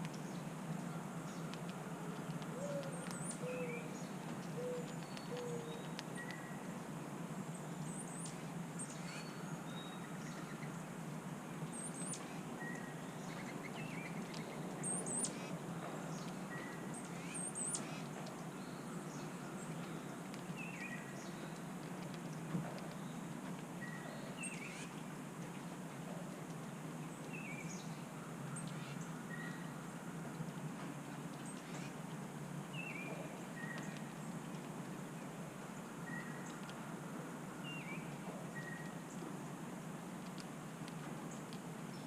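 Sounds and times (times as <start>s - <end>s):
songbirds chirping and twittering: 0.0s - 42.0s.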